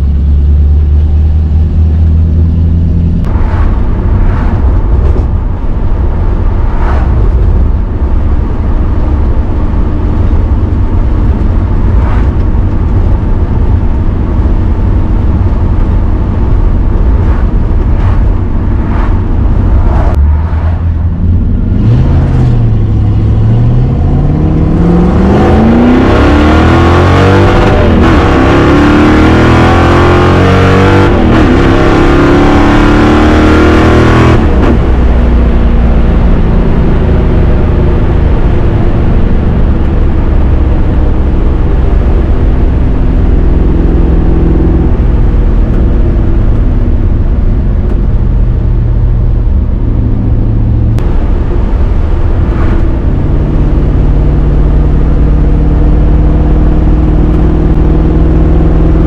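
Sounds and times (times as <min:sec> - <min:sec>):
car engine accelerating and cruising: 0:00.0 - 0:59.0.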